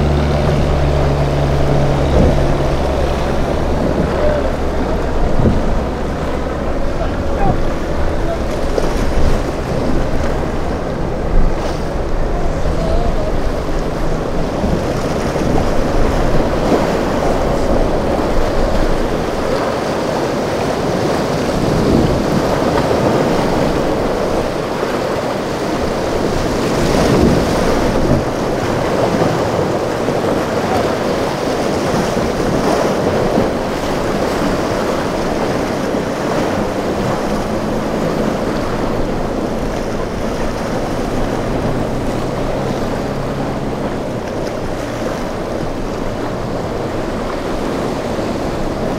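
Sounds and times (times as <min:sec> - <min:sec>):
boat engine drone: 0:00.0 - 0:48.9
ocean surf rushing: 0:00.0 - 0:48.9
wind buffeting microphone: 0:00.0 - 0:48.9.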